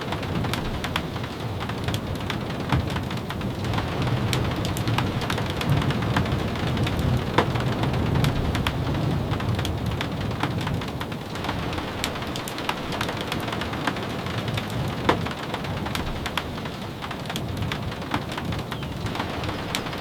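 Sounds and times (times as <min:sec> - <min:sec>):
sharp taps of raindrops: 0:00.0 - 0:20.0
steady rain falling: 0:00.0 - 0:20.0.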